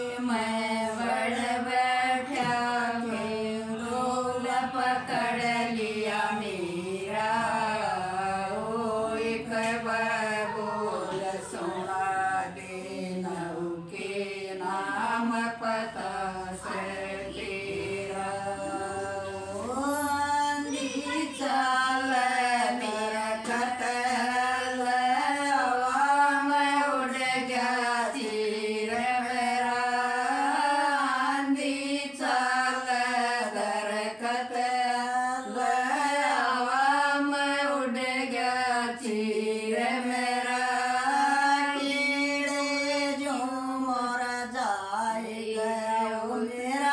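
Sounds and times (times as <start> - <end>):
women singing unaccompanied: 0.0 - 46.9.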